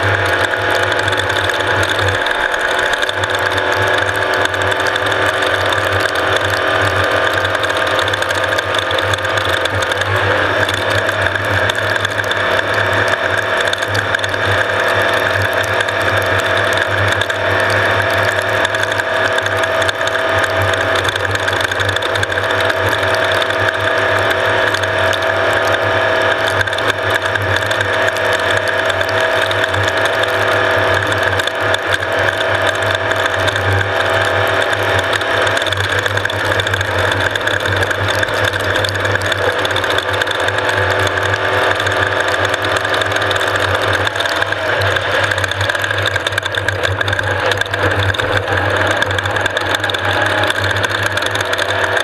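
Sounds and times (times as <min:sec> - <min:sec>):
continuous mechanical rattle: 0:00.0 - 0:52.0
race vehicle engine: 0:00.0 - 0:52.0.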